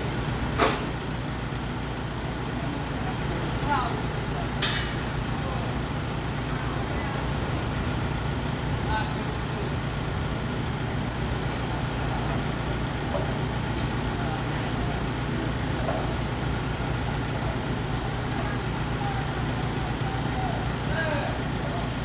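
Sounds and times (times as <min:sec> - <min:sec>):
indistinct workers' voices: 0:00.0 - 0:22.0.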